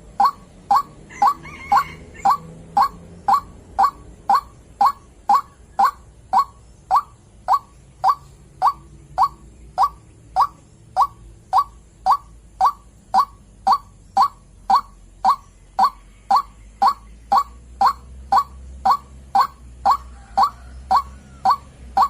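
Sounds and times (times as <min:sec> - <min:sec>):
waterhen calling: 0:00.0 - 0:22.0.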